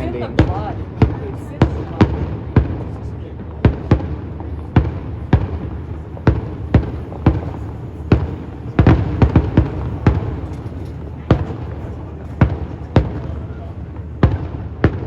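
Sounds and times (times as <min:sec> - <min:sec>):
fireworks sharp bangs: 0:00.0 - 0:15.0.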